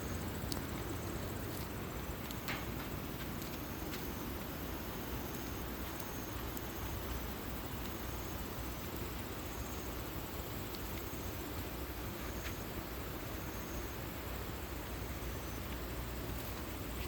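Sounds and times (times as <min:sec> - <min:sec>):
high insect chirps: 0:00.0 - 0:17.0.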